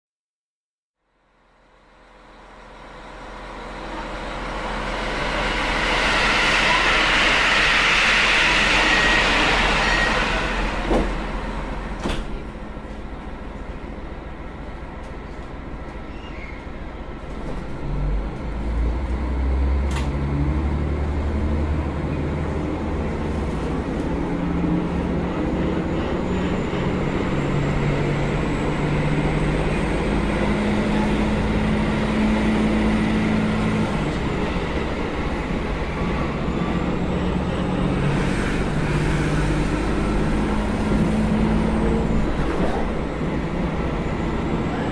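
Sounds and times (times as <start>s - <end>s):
diesel railcar engine accelerating: 1.0s - 44.9s
train running rumble: 1.6s - 44.9s.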